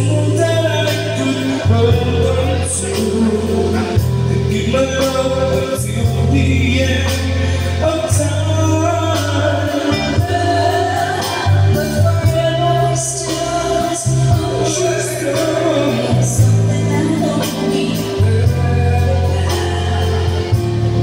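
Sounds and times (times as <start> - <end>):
amplified backing music with bass: 0.0 - 21.0
people singing into microphones: 0.0 - 21.0.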